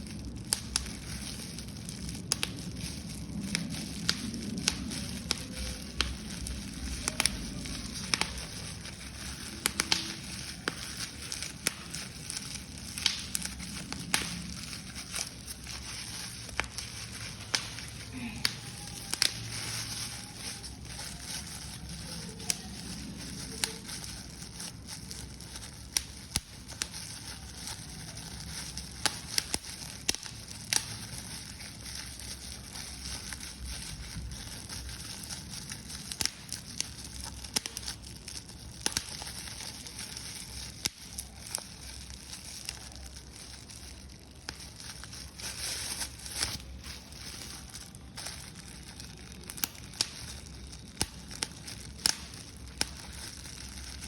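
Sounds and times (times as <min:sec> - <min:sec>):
paper being crumpled: 0:00.0 - 0:54.0.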